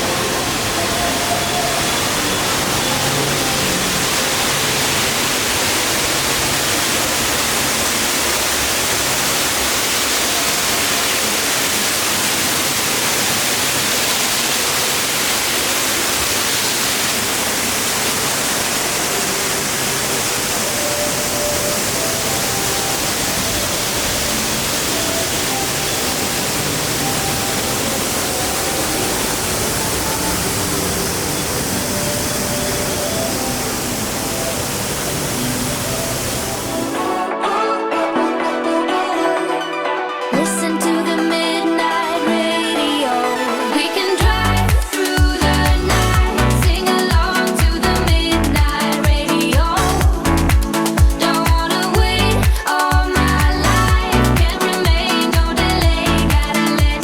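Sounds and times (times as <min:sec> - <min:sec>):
faint music: 0:00.0 - 0:13.4, 0:17.5 - 0:57.0
heavy rain hissing: 0:00.0 - 0:37.3, 0:44.0 - 0:57.0.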